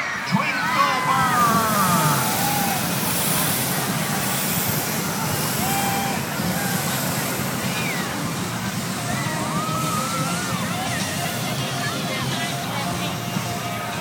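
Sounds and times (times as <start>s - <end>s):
crowd voices: 0.0s - 14.0s
propane burners firing: 0.0s - 14.0s.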